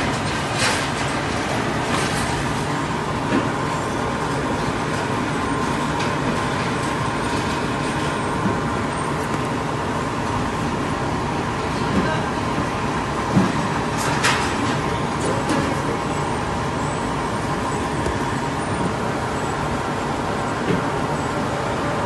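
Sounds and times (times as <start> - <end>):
conveyor machine running: 0.0 - 22.0.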